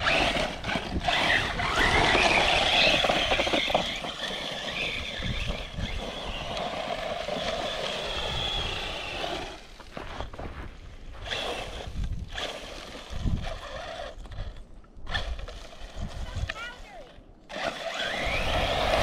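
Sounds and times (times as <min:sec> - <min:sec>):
electric motor whining: 0:00.0 - 0:10.2, 0:11.2 - 0:16.5, 0:17.5 - 0:19.0
tyres scrabbling on gravel: 0:00.0 - 0:19.0.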